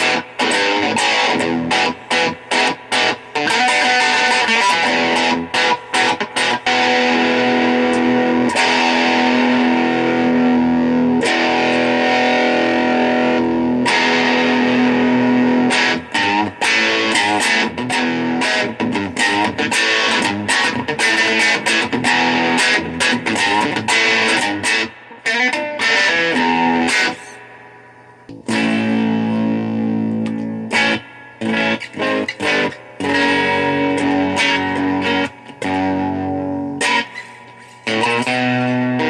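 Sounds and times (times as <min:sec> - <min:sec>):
electric guitar playing: 0:00.0 - 0:39.0.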